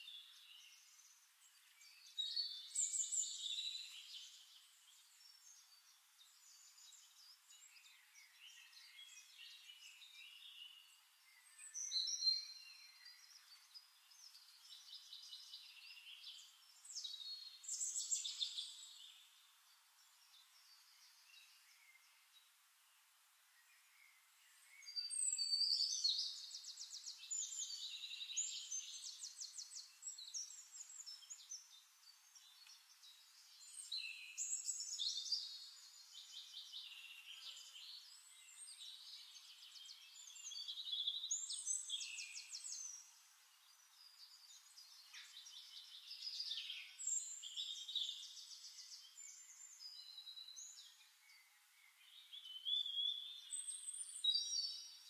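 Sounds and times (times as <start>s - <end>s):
songbirds trilling and chirping: 0.0s - 55.0s.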